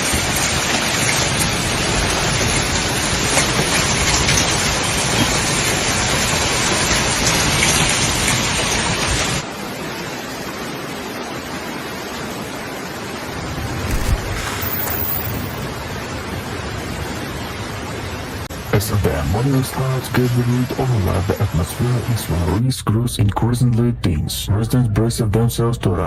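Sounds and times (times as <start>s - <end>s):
heavy rain pouring: 0.0s - 24.6s.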